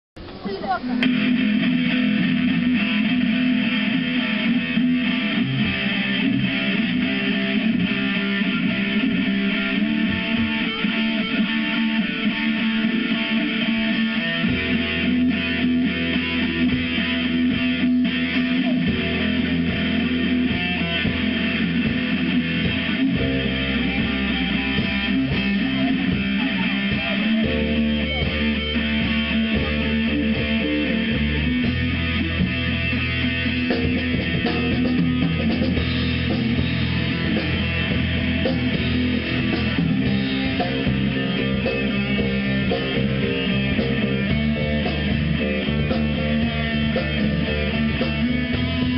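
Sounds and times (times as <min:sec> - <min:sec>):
amplified electric guitars: 0:00.2 - 0:48.9
heavy low notes: 0:00.2 - 0:48.9.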